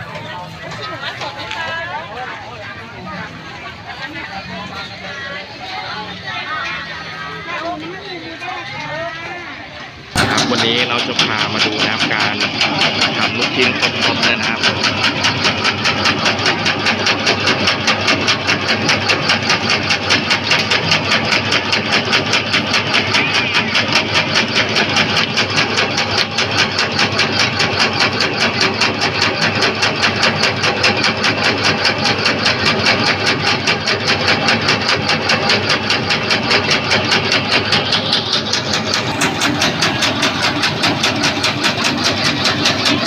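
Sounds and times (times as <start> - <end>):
meat grinder machine running: 0.0 - 43.0.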